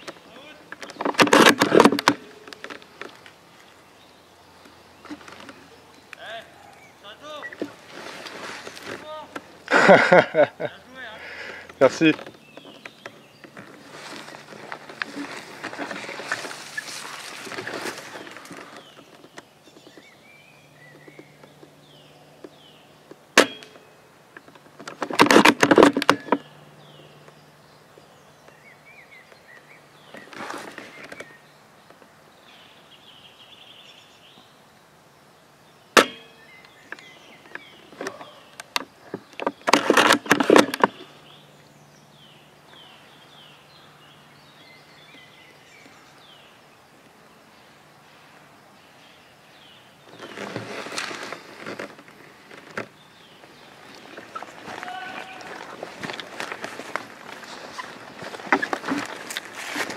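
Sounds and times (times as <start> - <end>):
small birds chirping: 0.0 - 1.2, 1.8 - 25.0, 26.0 - 59.9.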